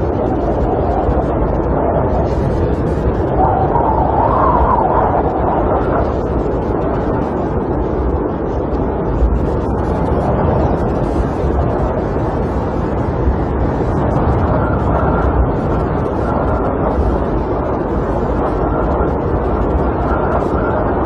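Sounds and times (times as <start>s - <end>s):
wind roaring and gusting: 0.0s - 21.0s.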